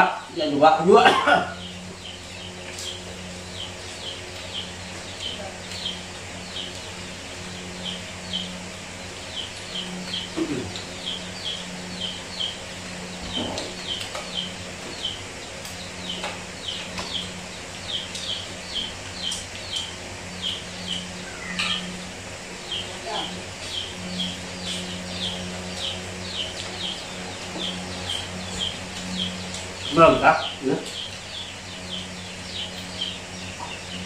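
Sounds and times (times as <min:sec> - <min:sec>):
low hum: 0:00.0 - 0:34.0
small birds chirping: 0:00.0 - 0:34.0.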